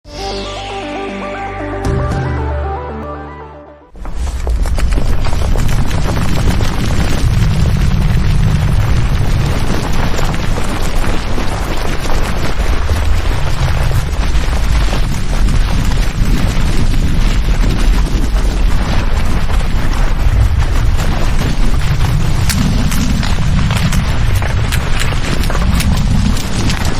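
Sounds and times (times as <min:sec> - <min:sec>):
deep magma rumble: 0:04.0 - 0:26.9
dense crackling and hiss: 0:04.0 - 0:26.9.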